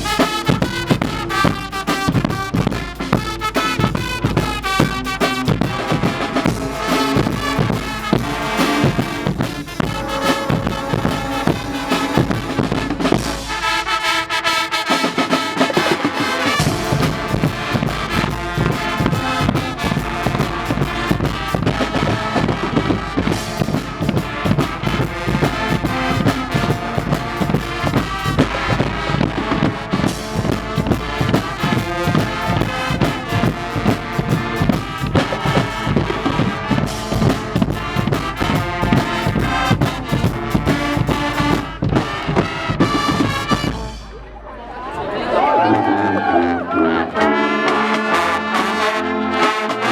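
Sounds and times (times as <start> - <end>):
drums: 0.0 - 45.5, 47.2 - 49.9
brass band playing: 0.0 - 49.9.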